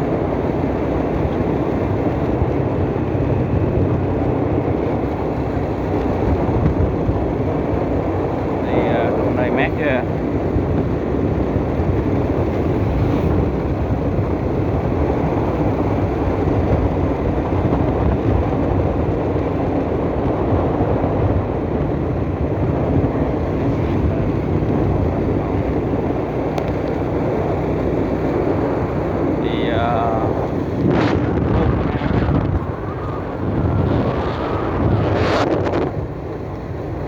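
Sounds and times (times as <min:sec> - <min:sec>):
vehicle engine and road noise: 0:00.0 - 0:37.0
wind buffeting microphone: 0:00.0 - 0:37.0.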